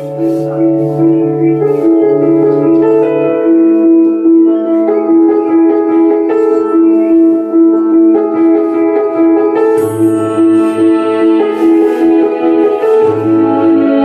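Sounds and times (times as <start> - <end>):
instrumental music from tv speakers: 0.0 - 14.0.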